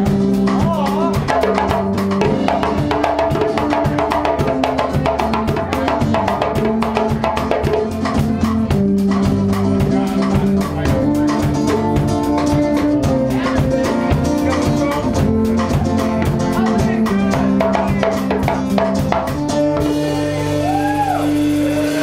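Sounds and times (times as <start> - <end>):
drum kit beat: 0.0 - 22.0
electric guitar: 0.0 - 22.0.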